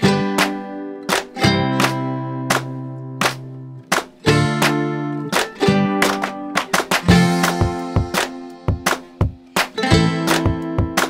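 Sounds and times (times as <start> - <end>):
guitar chords over steady beat: 0.0 - 11.0.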